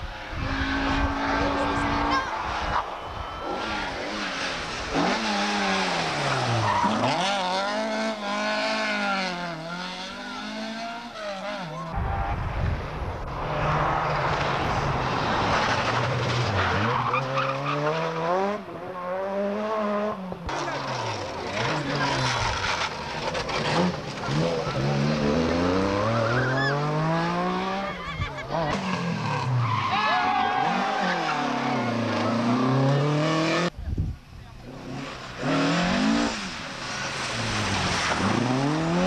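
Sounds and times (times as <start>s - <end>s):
rally car engine revving: 0.0s - 33.8s, 34.6s - 39.0s.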